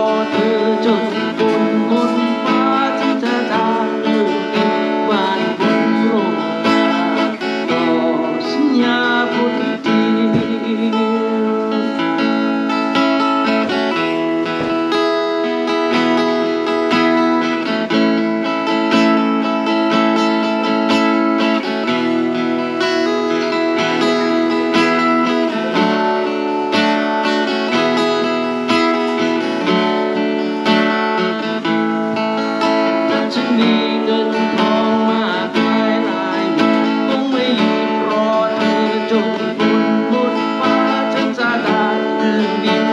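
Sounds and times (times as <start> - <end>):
guitar playing picked notes: 0.0 - 42.9.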